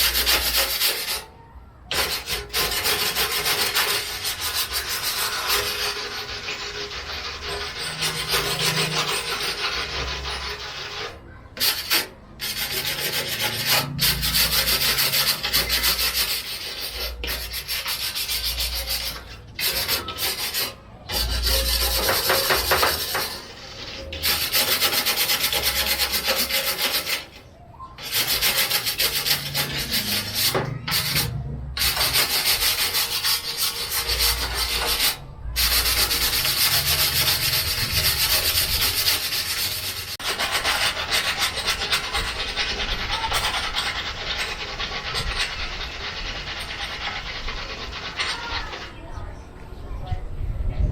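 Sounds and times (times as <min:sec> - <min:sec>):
sanding and scraping rust off metal: 0:00.0 - 0:49.4.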